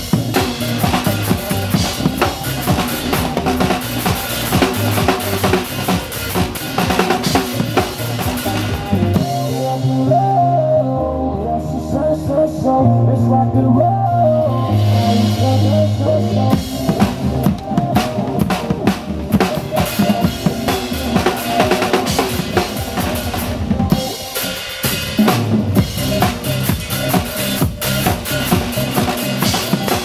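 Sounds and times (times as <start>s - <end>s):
drum kit played fast: 0.0s - 10.8s, 14.2s - 30.0s
backing music with bass notes: 0.0s - 30.0s.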